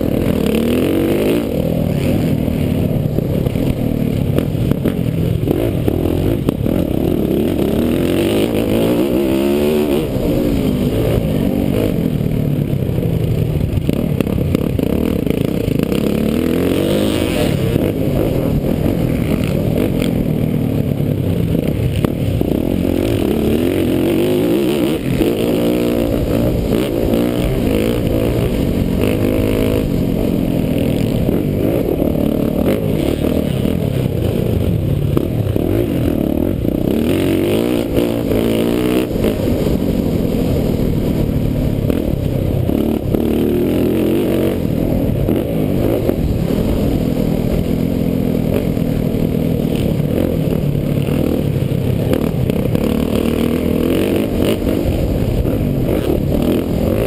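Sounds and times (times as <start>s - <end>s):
muffled dirt bike engine revving: 0.0s - 57.0s.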